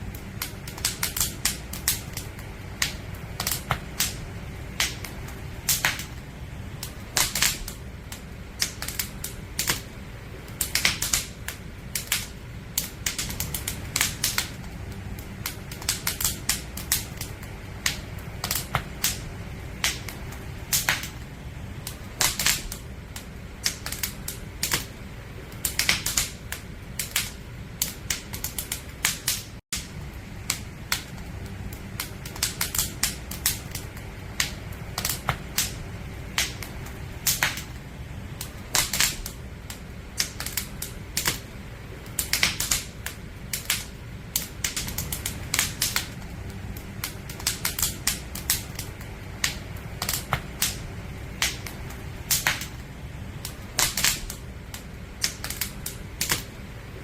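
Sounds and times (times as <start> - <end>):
firewood crackling and popping: 0.0 - 57.0
low rumble of flames: 0.0 - 57.0.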